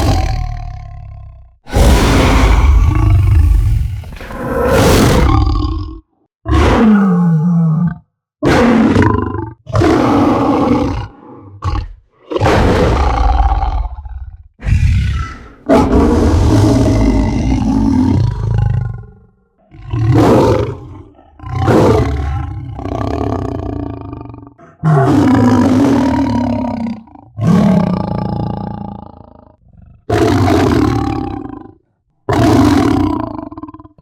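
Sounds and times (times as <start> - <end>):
lion roaring and growling: 0.0 - 34.0.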